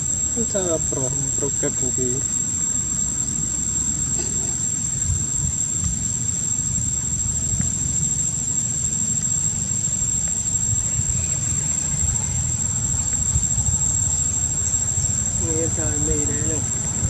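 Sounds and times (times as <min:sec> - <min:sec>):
high thin insect drone: 0:00.0 - 0:17.0.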